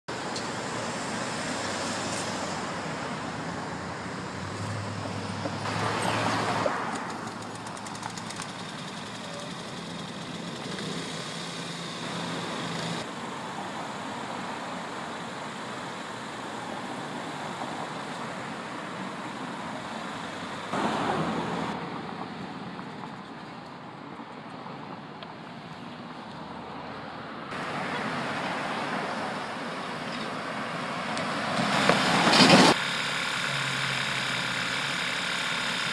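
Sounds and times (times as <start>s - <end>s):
cars rushing on road: 0.1s - 35.9s
vehicles passing: 0.1s - 35.9s.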